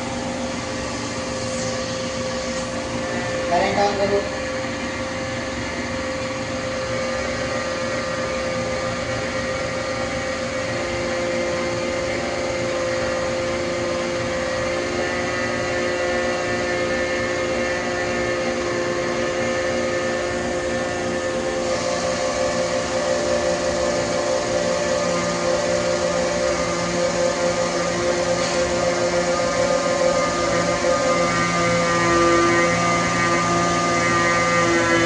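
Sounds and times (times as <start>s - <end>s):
hydraulic pump whine: 0.0s - 35.0s.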